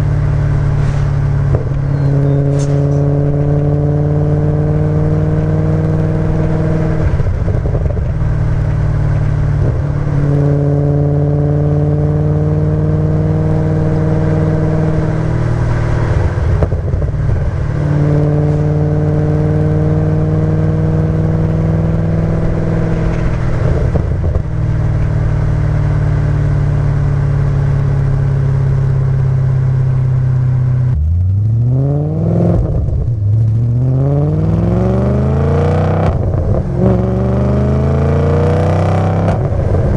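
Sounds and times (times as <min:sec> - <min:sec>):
car engine droning and revving: 0:00.0 - 0:39.9.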